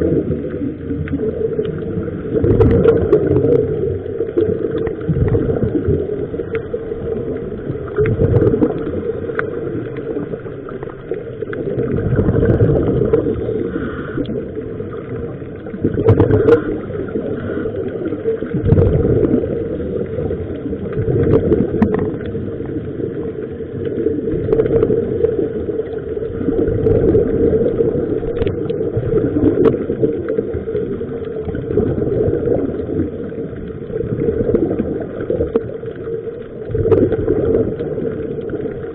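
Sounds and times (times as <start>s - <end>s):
regulator bubbles gurgling underwater: 0.0s - 38.9s.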